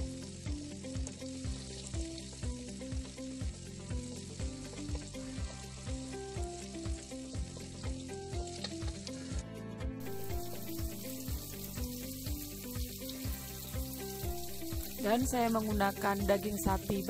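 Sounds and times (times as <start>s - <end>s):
vegetables sizzling in hot oil: 0.0s - 9.4s, 10.0s - 17.0s
background music with steady beat: 0.0s - 17.0s.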